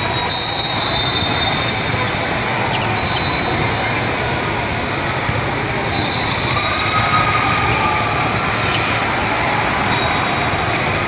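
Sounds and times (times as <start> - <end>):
gym crowd din: 0.0 - 11.0.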